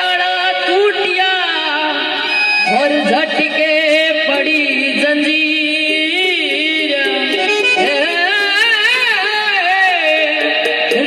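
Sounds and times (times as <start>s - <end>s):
reedy accompaniment: 1.6s - 11.0s.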